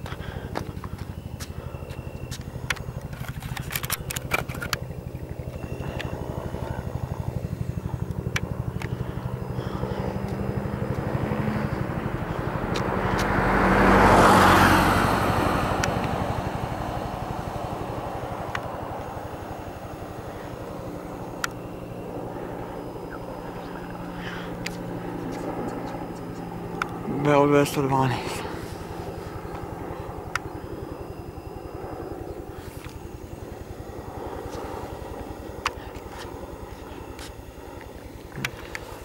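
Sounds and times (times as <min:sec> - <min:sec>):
helicopter rotor blade slap: 0:00.0 - 0:39.0.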